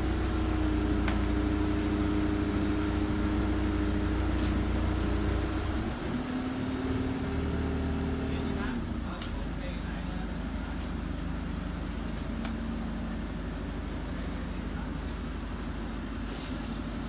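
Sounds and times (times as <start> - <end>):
crane engine and hydraulics humming: 0.0 - 17.0.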